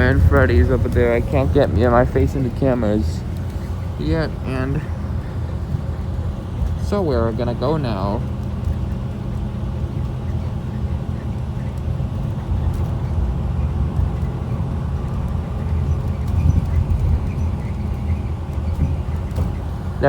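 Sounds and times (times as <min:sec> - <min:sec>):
bus diesel engine droning: 0:00.0 - 0:20.0.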